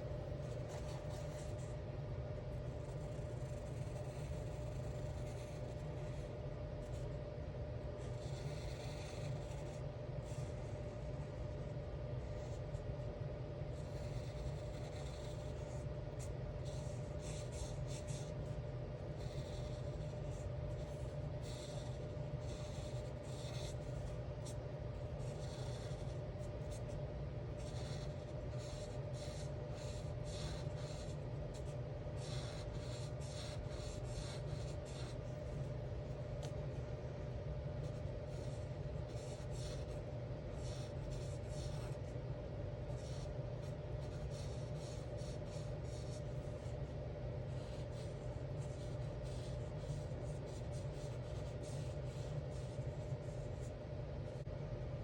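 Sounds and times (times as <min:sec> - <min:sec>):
steady low hum: 0:00.0 - 0:55.0
markers stroking across paper: 0:00.4 - 0:01.8, 0:02.5 - 0:07.2, 0:08.0 - 0:12.9, 0:13.8 - 0:36.7, 0:37.8 - 0:42.1, 0:42.7 - 0:54.5.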